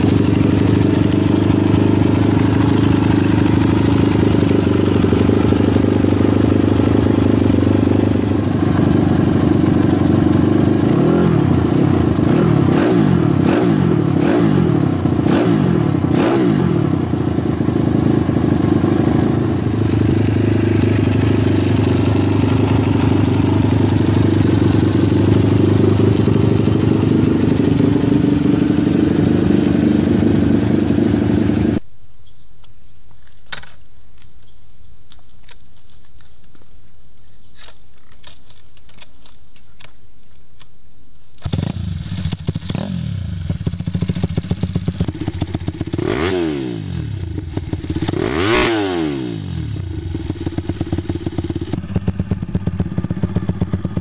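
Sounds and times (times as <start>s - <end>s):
mini-bike engine revving: 0.0s - 31.8s, 41.4s - 54.0s.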